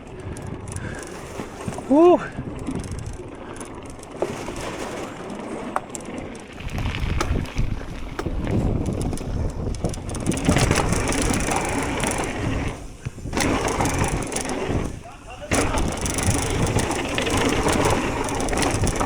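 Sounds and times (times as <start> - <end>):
bike knocks and rattles: 0.0 - 19.0
tyres crunching over dirt: 0.0 - 19.0.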